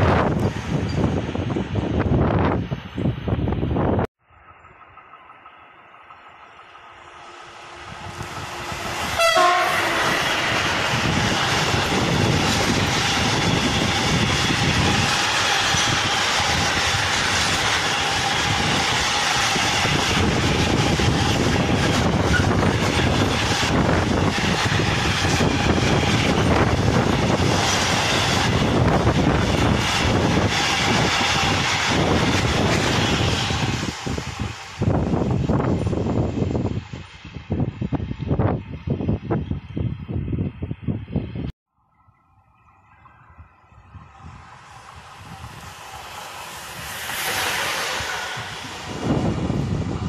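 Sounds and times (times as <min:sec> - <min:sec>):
freight train rumbling past: 0:00.0 - 0:41.5, 0:43.0 - 0:50.0.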